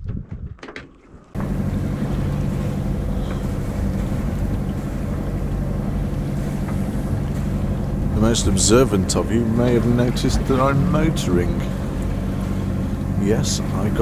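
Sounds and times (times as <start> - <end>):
boat engine droning: 1.2 - 14.0.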